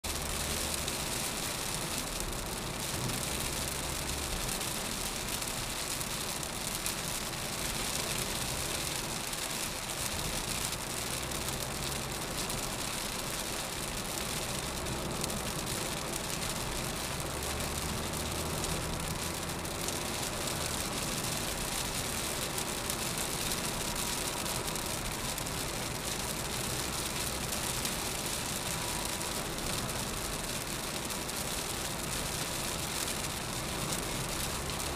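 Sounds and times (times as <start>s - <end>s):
rain on car windscreen: 0.0s - 34.9s
tyre and road noise: 0.0s - 34.9s.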